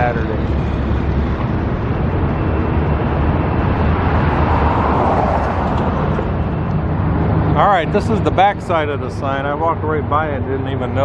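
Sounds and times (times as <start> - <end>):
road traffic: 0.0 - 11.0
vehicle passing: 0.0 - 11.0.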